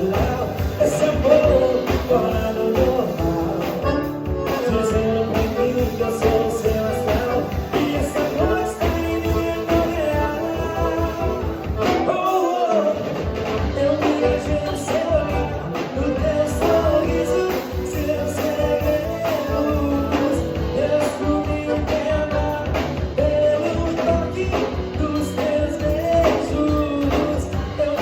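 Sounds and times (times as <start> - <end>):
drum beat: 0.0 - 28.0
guitar: 0.0 - 28.0
person singing: 0.0 - 28.0.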